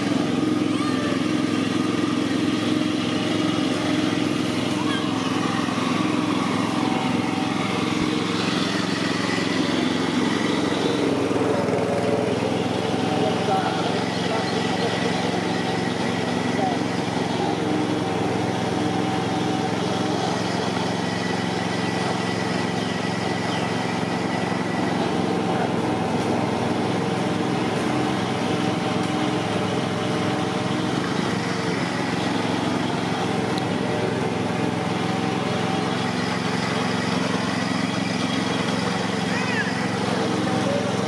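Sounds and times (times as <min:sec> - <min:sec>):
small engine running steadily: 0:00.0 - 0:41.0.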